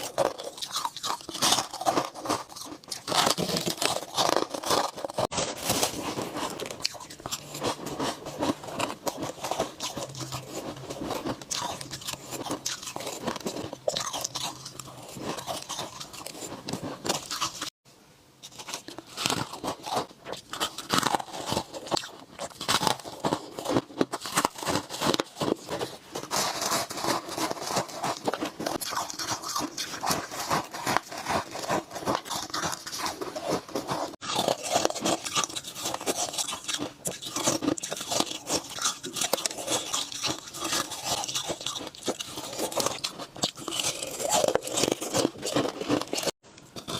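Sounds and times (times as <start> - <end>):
ice being chewed: 0.0 - 17.8, 18.4 - 46.9.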